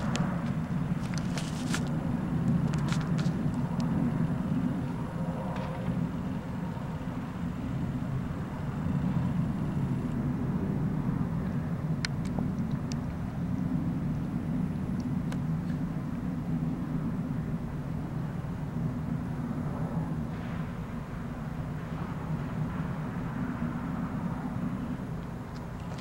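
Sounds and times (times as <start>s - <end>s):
low roaring rumble from sky: 0.0s - 26.0s.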